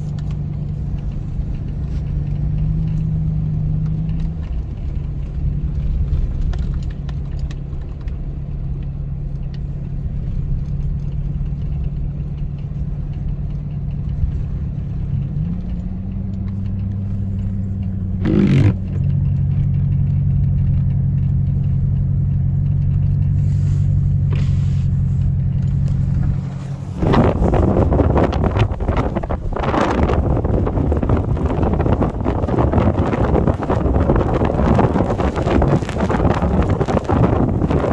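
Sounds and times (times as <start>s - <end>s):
engine humming: 0.0s - 37.9s.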